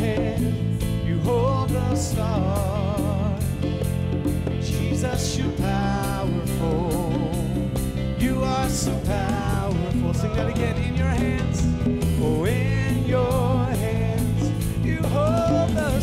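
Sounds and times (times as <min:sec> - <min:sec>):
keyboard accompaniment: 0:00.0 - 0:16.0
man singing with vibrato: 0:00.0 - 0:16.0.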